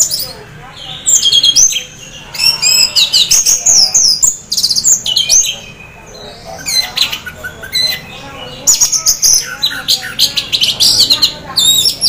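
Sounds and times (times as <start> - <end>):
thrush singing whistled trills: 0.0 - 12.0.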